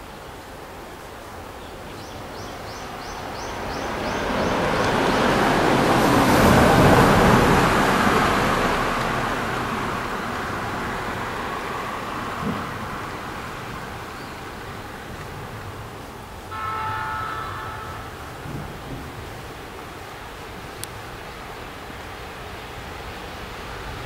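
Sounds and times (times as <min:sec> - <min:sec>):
electric train passing: 0:02.3 - 0:24.0.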